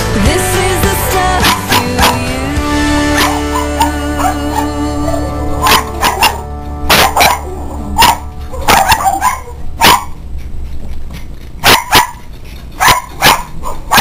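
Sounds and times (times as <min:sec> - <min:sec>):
dogs barking: 0:01.1 - 0:02.4, 0:03.1 - 0:14.0.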